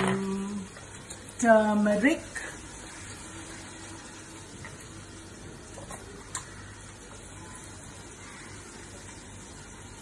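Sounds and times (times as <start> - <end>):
peanuts sizzling in hot oil: 0.0 - 10.0.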